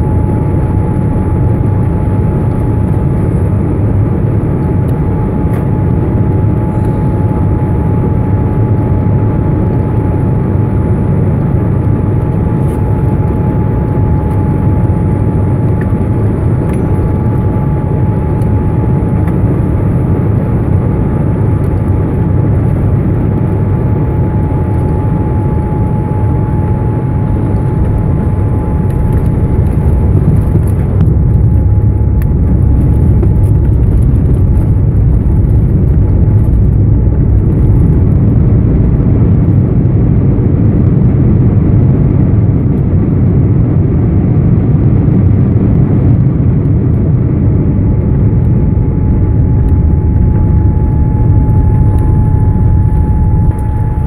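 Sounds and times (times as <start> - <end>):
airplane cabin rumble: 0.0 - 54.0
thin steady whine: 0.0 - 54.0.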